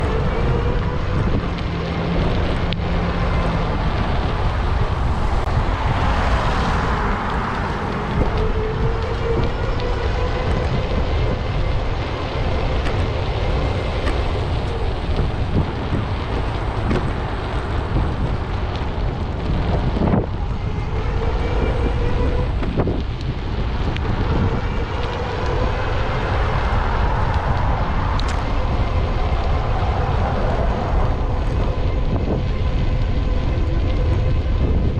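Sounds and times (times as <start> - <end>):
passing traffic hum: 0.0 - 34.9
wind rumbling on microphone: 0.0 - 34.9.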